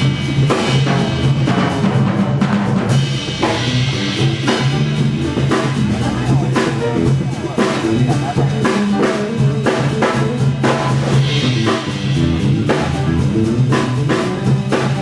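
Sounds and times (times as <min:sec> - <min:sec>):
bass notes: 0:00.0 - 0:15.0
big band playing: 0:00.0 - 0:15.0
drum kit: 0:00.0 - 0:15.0.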